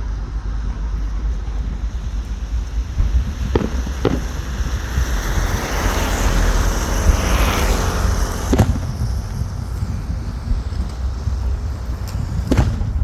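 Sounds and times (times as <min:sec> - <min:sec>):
fireworks bangs: 0:00.0 - 0:13.0
fireworks hissing: 0:00.0 - 0:13.0
wind on microphone: 0:00.0 - 0:13.0.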